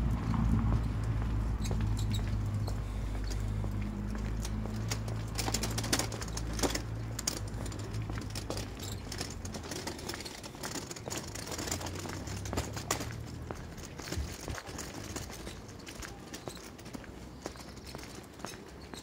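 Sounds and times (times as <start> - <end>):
footsteps on pavement: 0.0 - 19.0.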